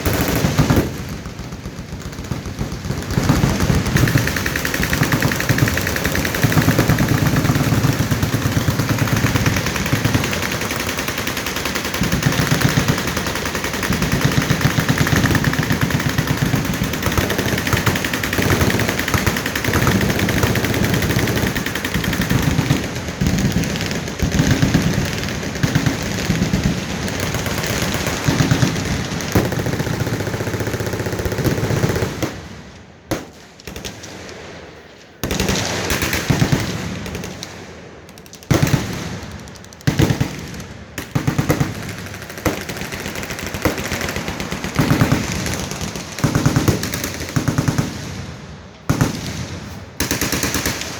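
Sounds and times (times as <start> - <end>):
machine guns firing: 0.0 - 34.4, 35.2 - 50.9.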